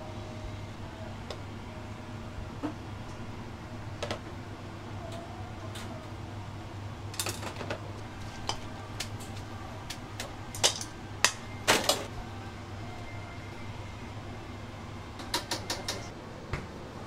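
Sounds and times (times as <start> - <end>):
kitchen equipment hum: 0.0 - 17.0.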